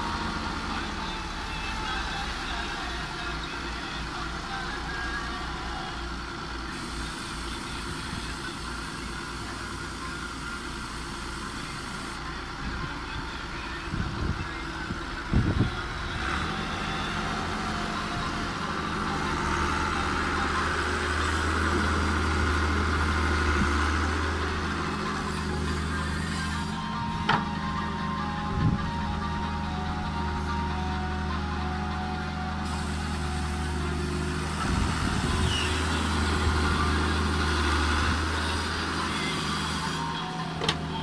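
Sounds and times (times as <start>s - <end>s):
excavator diesel engine: 0.0s - 41.0s
tractor engine hum: 0.0s - 41.0s.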